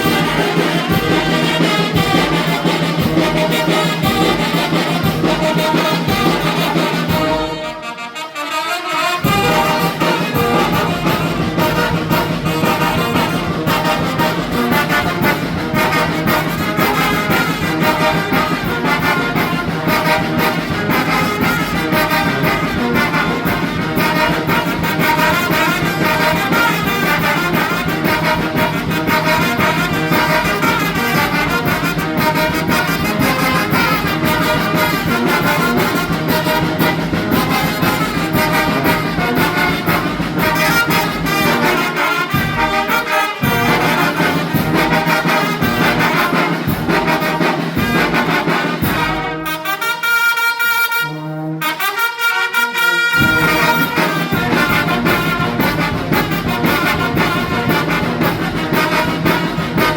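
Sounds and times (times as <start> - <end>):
brass band playing: 0.0 - 59.9.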